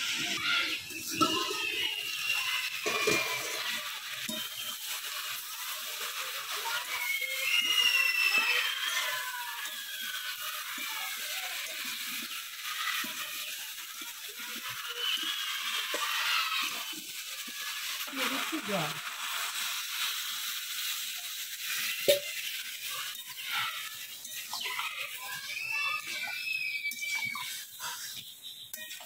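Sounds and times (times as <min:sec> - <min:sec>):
curry sizzling in a pan: 0:00.0 - 0:29.0
high whistling chirps: 0:00.0 - 0:29.0.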